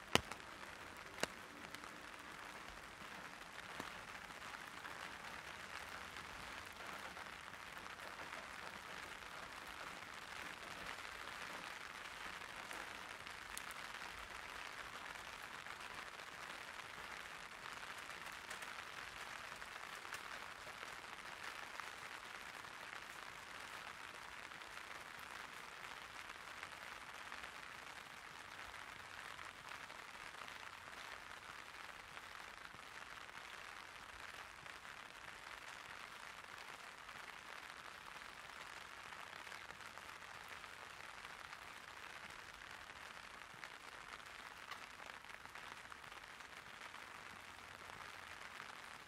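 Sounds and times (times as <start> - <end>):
light rain on an umbrella: 0.0 - 49.0.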